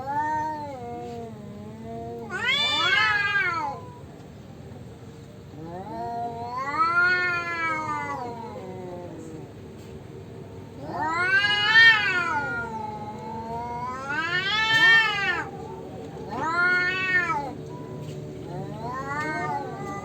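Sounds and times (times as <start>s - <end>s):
cats caterwauling: 0.0s - 4.1s, 5.5s - 9.6s, 10.7s - 20.0s.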